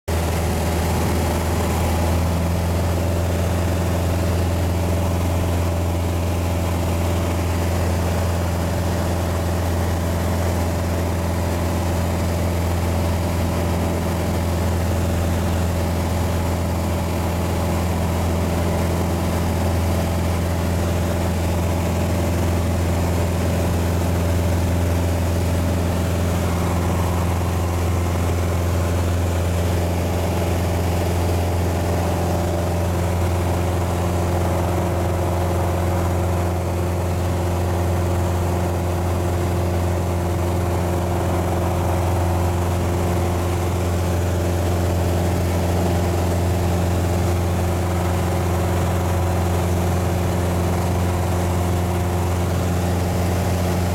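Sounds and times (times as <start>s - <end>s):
light aircraft engine droning: 0.1s - 53.9s.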